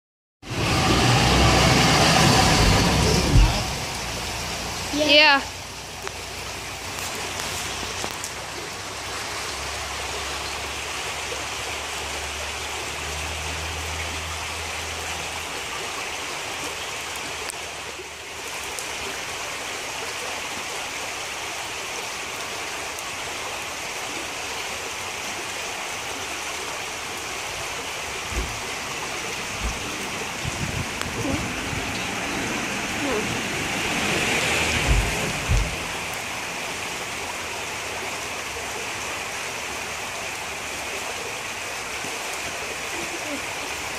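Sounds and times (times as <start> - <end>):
creek water flowing: 0.4 - 43.9.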